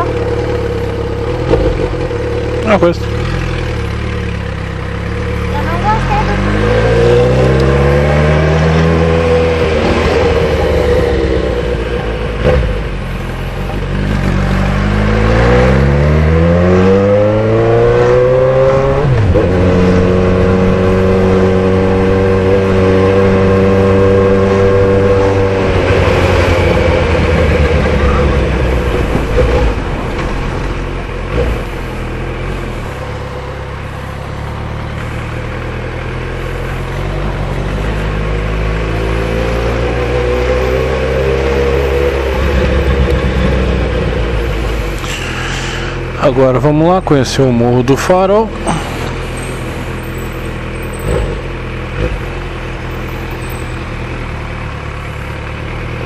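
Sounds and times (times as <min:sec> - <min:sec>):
motorcycle engine while riding: 0:00.0 - 0:56.0.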